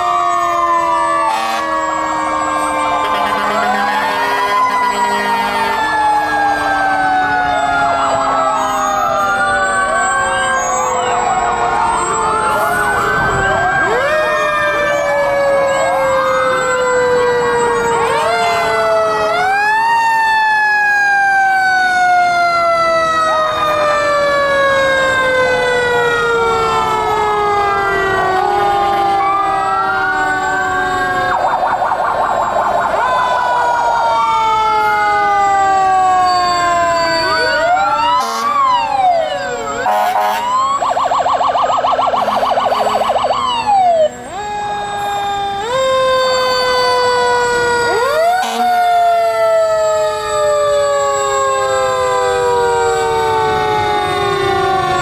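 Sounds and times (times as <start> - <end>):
fast warbling siren yelp: 0.0 - 55.0
fire engine sirens wailing: 0.0 - 55.0.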